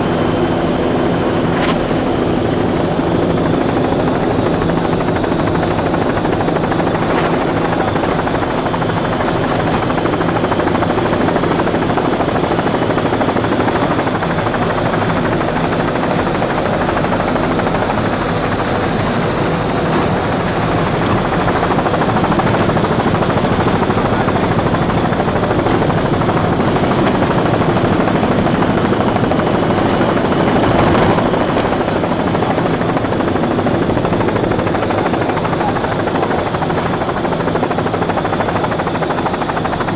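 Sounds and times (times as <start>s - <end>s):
faint high whine: 0.0s - 34.5s
mechanical engine drone: 0.0s - 39.9s.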